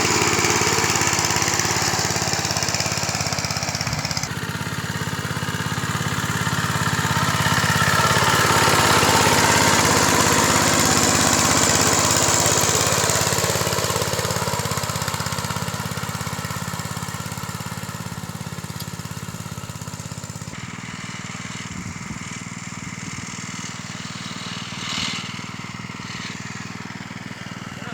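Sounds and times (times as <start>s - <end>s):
tractor engine running: 0.0s - 27.9s.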